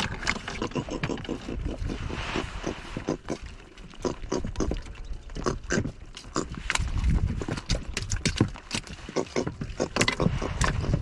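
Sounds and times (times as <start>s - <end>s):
fish grunting: 0.0s - 6.9s, 8.8s - 11.0s.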